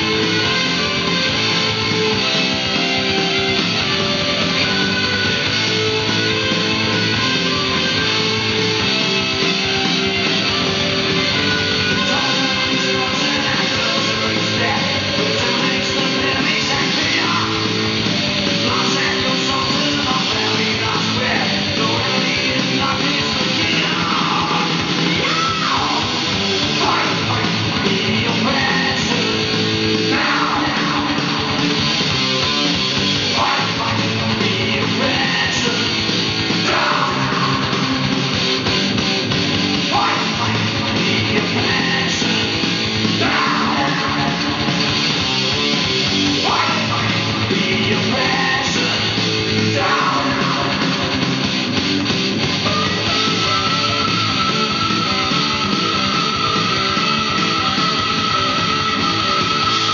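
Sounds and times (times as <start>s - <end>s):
heavy rock music: 0.0s - 59.9s.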